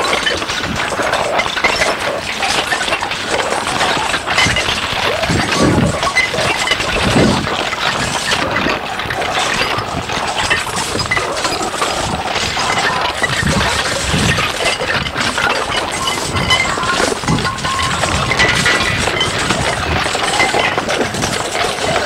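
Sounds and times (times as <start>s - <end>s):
crackling and clinking noise texture: 0.0s - 22.0s.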